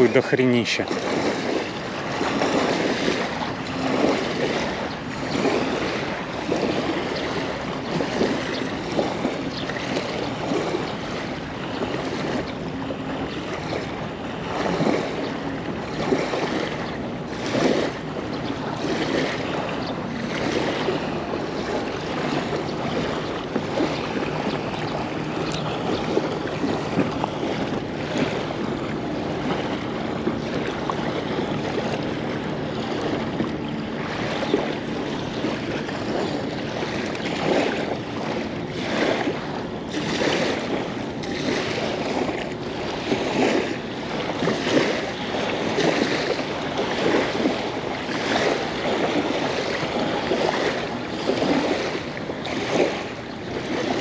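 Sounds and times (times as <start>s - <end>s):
small waves lapping on a bank: 0.0s - 54.0s
wind buffeting the microphone: 0.0s - 54.0s.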